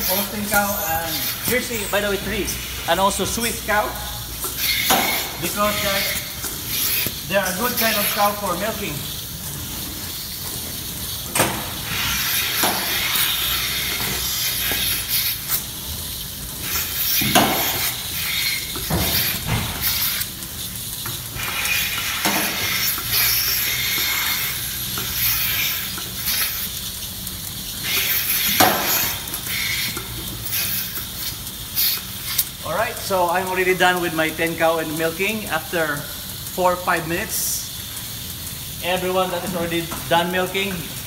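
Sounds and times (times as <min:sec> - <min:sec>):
milking units hissing: 0:00.0 - 0:41.0.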